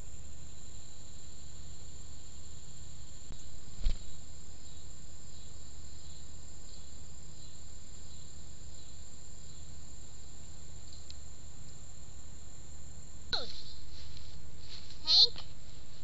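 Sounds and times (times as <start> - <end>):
faint insect chirps: 0.0 - 16.0
low hum and hiss: 0.0 - 16.0.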